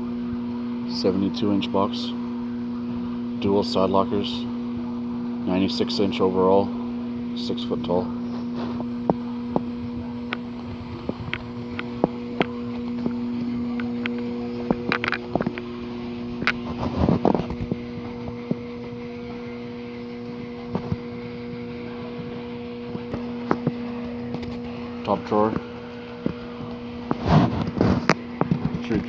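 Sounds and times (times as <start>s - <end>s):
steady mechanical hum: 0.0s - 29.0s.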